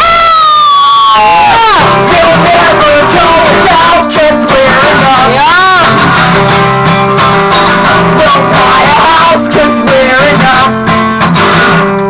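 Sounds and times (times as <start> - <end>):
person singing wordlessly: 1.2 - 11.3
acoustic guitar strumming: 1.2 - 12.0.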